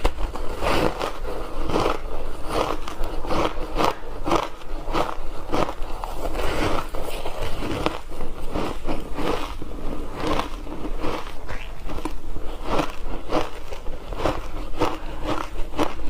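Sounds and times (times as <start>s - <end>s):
ice crunching between teeth: 0.0s - 16.0s.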